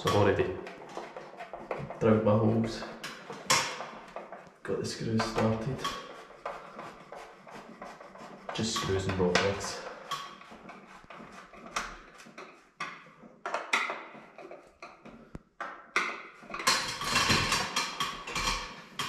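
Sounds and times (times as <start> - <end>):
scraping and rattling: 0.0 - 15.4, 16.3 - 19.0.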